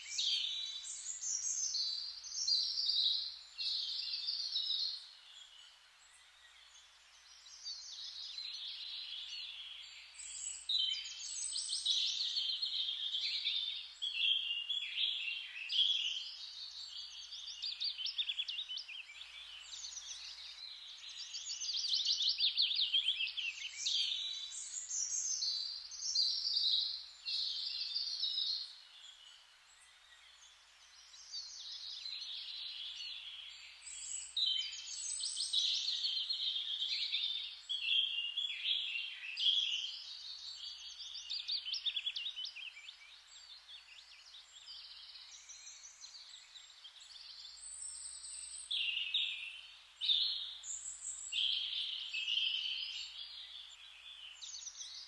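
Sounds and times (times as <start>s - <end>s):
faint steady hiss: 0.0s - 55.0s
songbirds chirping and trilling: 0.0s - 55.0s.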